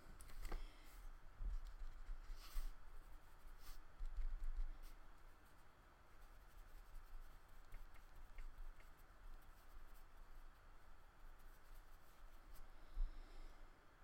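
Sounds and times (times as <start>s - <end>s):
paintbrush strokes on paper: 0.8s - 13.6s.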